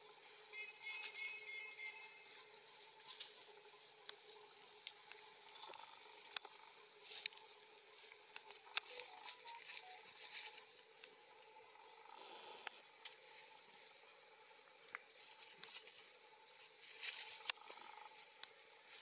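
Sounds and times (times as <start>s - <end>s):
leaves and twigs rustling: 0.0s - 11.8s, 12.4s - 19.0s.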